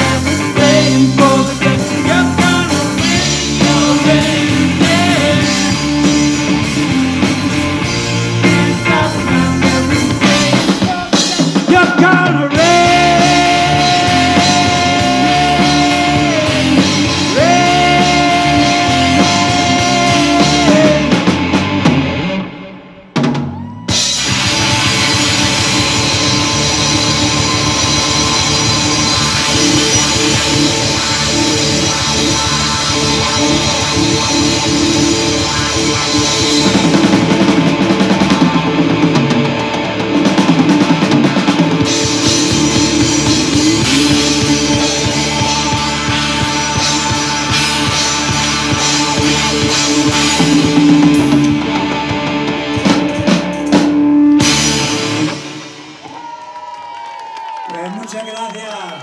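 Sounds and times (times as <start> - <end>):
distorted electric guitar: 0.0 - 56.1
bass guitar: 0.0 - 56.2
drum kit: 0.0 - 56.5.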